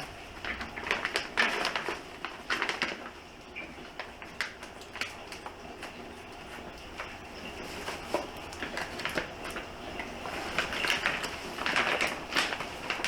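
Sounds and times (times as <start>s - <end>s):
packaging wrap crinkling: 0.0s - 13.0s.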